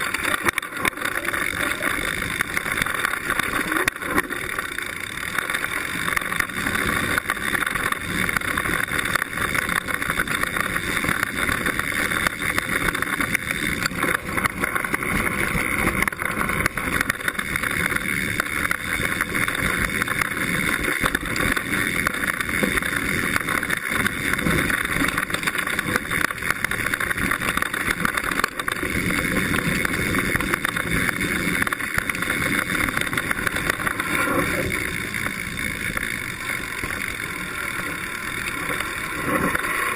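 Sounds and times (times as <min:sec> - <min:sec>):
bike rattling and knocking: 0:00.0 - 0:39.9
tyres rushing on dirt: 0:00.0 - 0:39.9.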